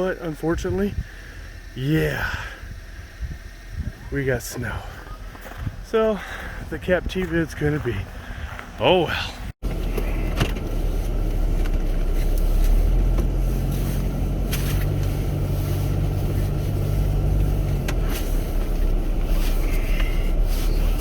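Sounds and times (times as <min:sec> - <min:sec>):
car engine and road noise: 0:00.0 - 0:21.0
engine hum: 0:00.0 - 0:21.0.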